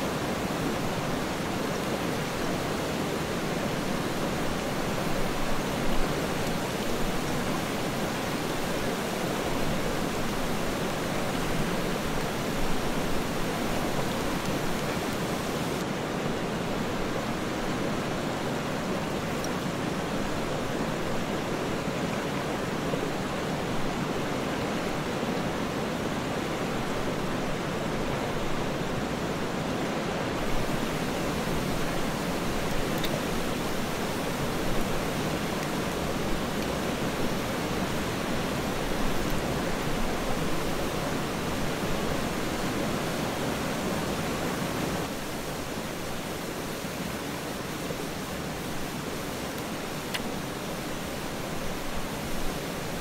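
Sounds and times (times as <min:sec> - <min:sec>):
river flowing over rocks: 0:00.0 - 0:53.0.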